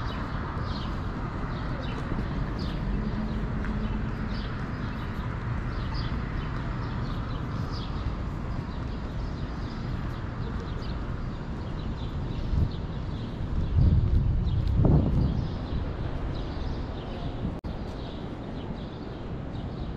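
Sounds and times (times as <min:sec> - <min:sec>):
city traffic rumble: 0:00.0 - 0:19.9.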